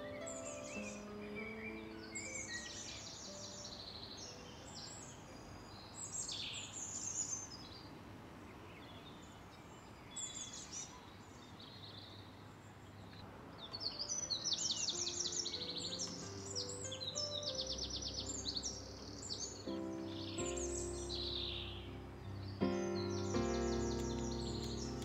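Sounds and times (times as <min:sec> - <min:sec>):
faint outdoor hiss: 0:00.0 - 0:25.0
songbirds chirping: 0:00.0 - 0:25.0.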